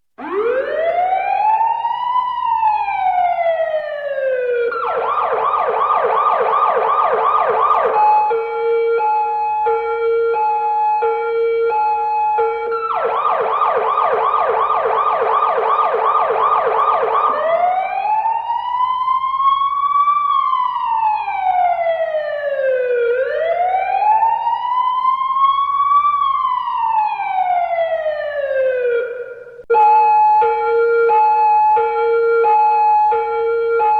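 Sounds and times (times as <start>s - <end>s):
police siren: 0.2s - 33.9s.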